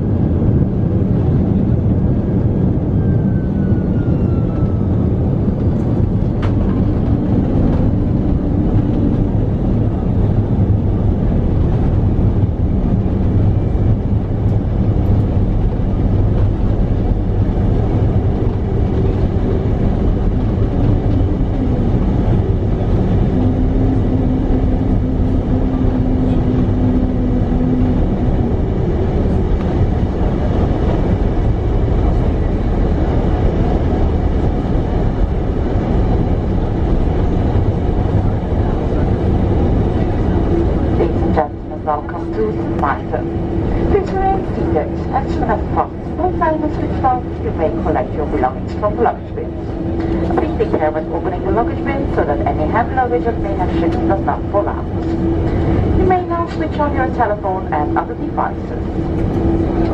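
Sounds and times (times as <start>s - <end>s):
aircraft cabin rumble on runway: 0.0s - 59.9s
held engine tones: 0.0s - 59.9s.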